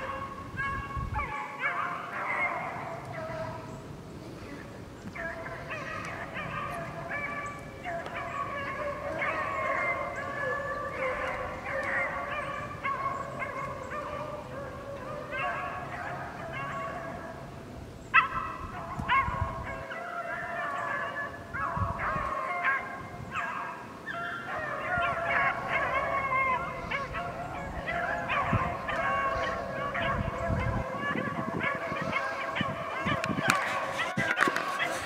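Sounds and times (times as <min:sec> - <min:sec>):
hounds baying: 0:00.0 - 0:03.8, 0:04.4 - 0:17.5, 0:18.1 - 0:35.0.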